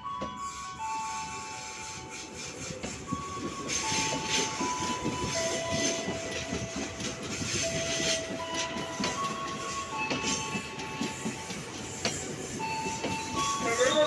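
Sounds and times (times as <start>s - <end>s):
high-pitched tones: 0.0s - 14.0s
train wheels knocking over rail joints: 2.4s - 14.0s.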